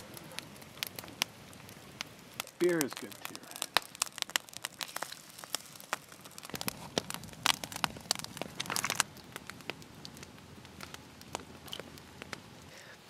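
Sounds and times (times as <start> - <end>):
campfire crackling and popping: 0.0 - 13.0
oysters cooking in a frying pan: 0.0 - 13.0.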